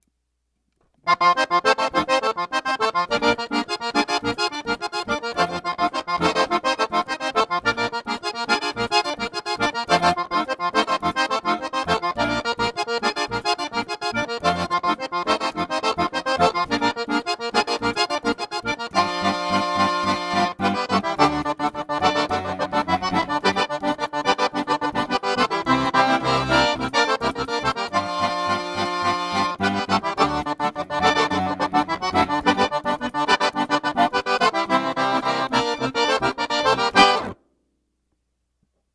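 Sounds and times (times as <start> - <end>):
accordion playing dance rhythm: 1.1 - 37.4.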